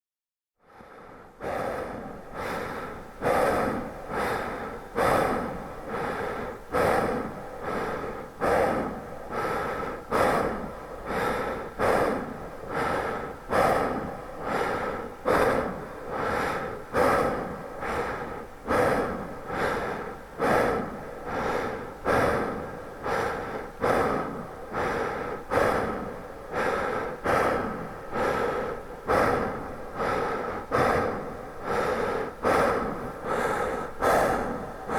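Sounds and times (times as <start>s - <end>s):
man breathing heavily: 0.6s - 34.9s.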